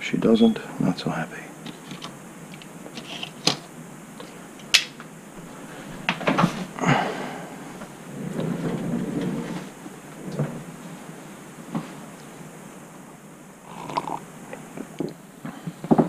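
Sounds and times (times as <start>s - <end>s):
rustling movement noise: 0.3s - 16.0s.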